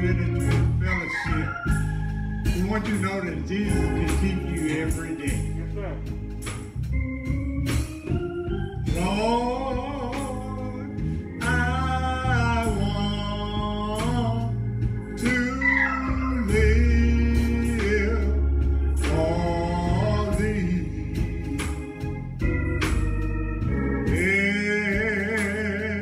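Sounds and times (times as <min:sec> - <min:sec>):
gospel singing: 0:00.0 - 0:26.0
organ accompaniment: 0:00.0 - 0:26.0.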